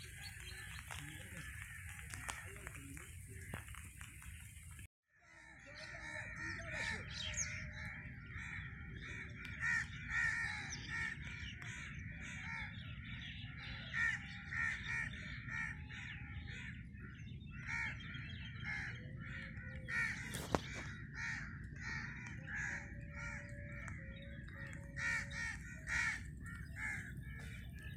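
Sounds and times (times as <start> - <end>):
flock of birds calling: 0.0 - 27.9.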